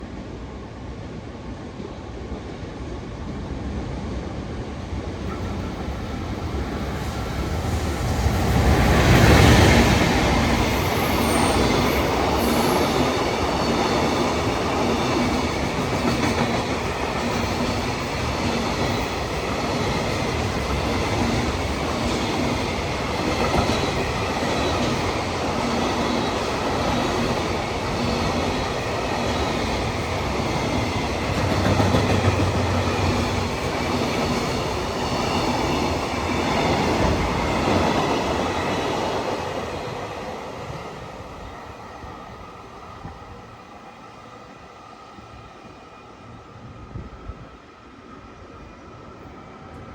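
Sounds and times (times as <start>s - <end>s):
freight train passing: 0.0s - 49.9s.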